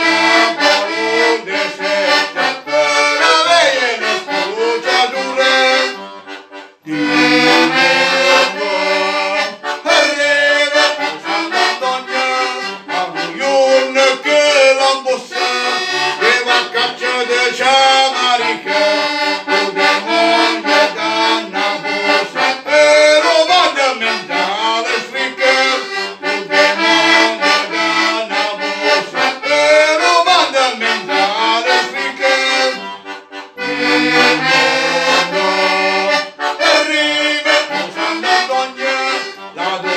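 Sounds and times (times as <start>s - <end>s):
button accordion playing a tune: 0.0s - 39.9s.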